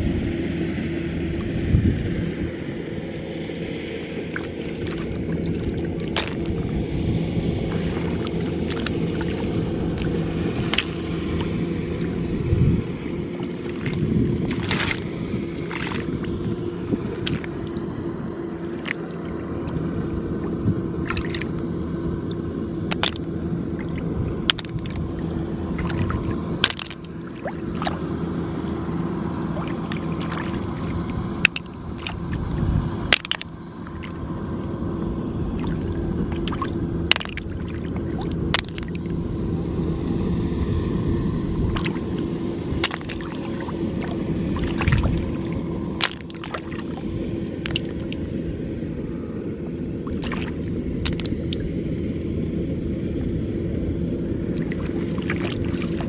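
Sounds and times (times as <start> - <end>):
steady low hum: 0.0 - 56.0
water sloshing: 4.0 - 34.4, 35.3 - 39.7, 41.4 - 51.7, 54.4 - 56.0.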